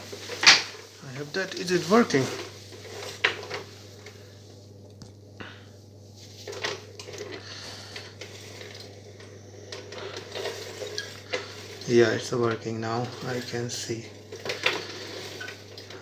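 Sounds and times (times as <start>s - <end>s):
brush clicks and rattles: 0.0s - 4.3s, 6.2s - 16.0s
steady low hum: 0.0s - 16.0s.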